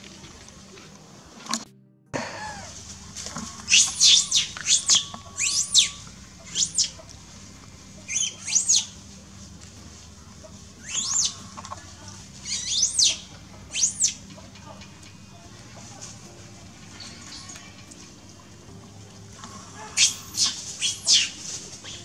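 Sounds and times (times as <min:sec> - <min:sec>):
bird chirping: 0:02.6 - 0:18.2, 0:19.4 - 0:22.0.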